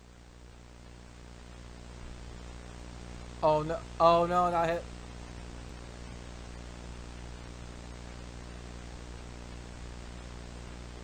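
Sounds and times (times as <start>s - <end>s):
low electrical hum: 0.0s - 11.0s
static hiss: 0.0s - 11.0s.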